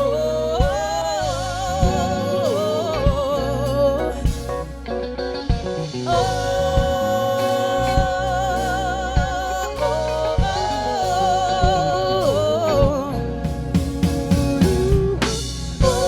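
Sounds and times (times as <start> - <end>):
bass: 0.0 - 16.0
singer holding wordless notes: 0.0 - 16.0
steady drum beat: 0.0 - 16.0.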